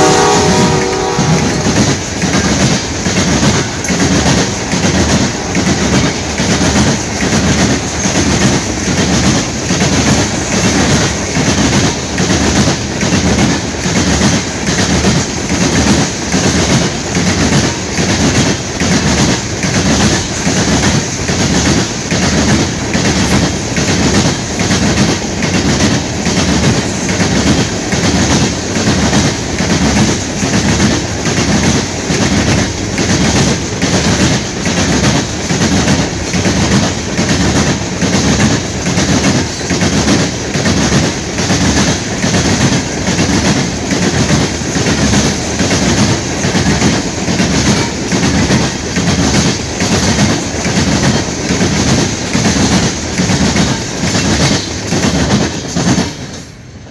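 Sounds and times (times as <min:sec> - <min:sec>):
train wheels clacking: 0:00.0 - 0:56.7.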